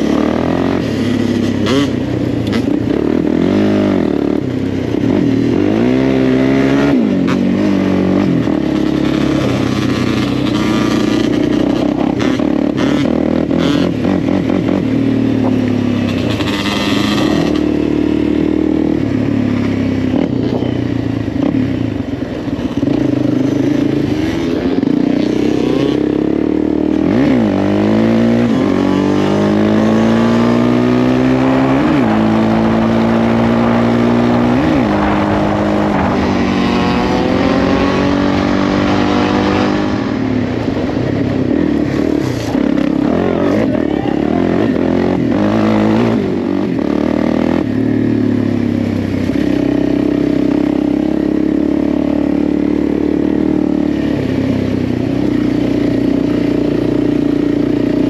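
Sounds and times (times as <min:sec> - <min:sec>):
single-cylinder engine accelerating: 0:00.0 - 0:58.0.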